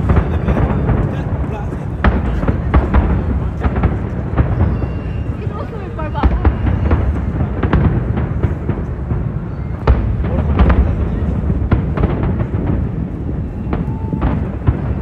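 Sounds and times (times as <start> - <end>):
crowd voices: 0.0 - 15.0
fireworks booming and cracking: 0.0 - 15.0.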